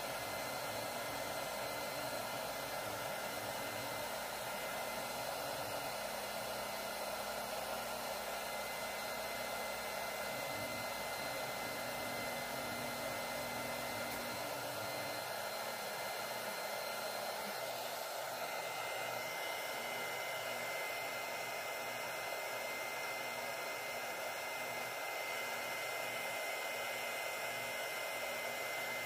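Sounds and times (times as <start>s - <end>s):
electric blower whooshing: 0.0s - 24.0s.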